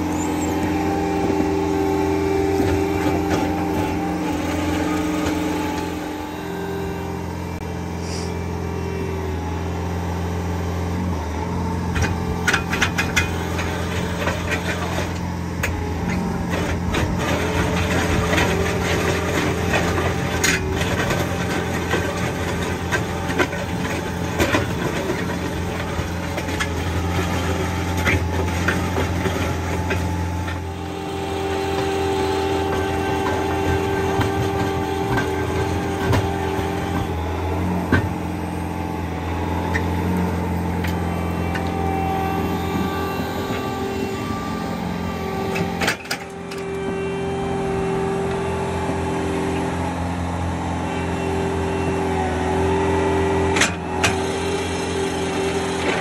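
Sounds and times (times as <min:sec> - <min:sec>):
diesel engine running: 0:00.0 - 0:56.0
hydraulic whine: 0:00.0 - 0:56.0.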